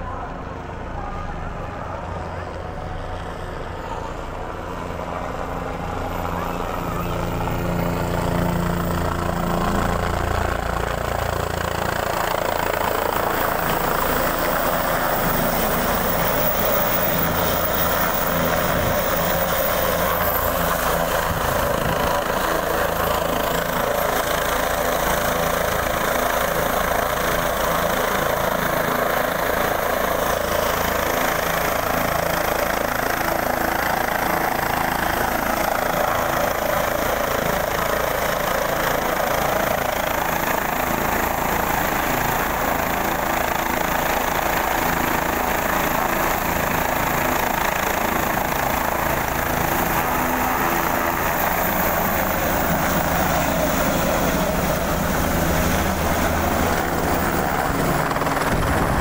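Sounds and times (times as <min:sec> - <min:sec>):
helicopter rotor noise: 0:00.0 - 0:59.0
helicopter turbine whine: 0:00.0 - 0:59.0.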